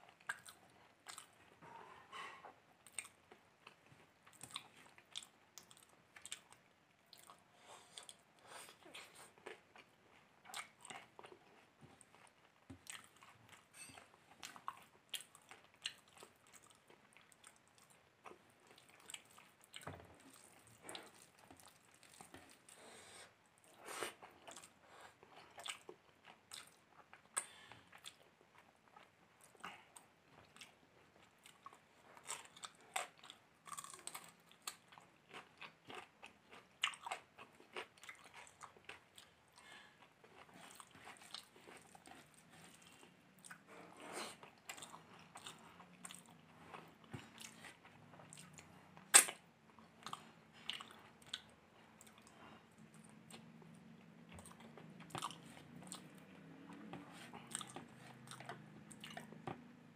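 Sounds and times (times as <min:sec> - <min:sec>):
man chewing rice: 0:00.0 - 0:01.6, 0:02.4 - 0:59.9.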